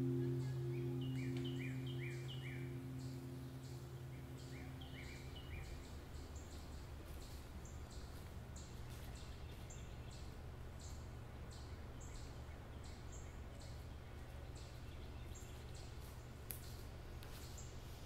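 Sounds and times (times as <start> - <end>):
steady low rumble: 0.0 - 17.2
bird chirping: 0.0 - 17.9.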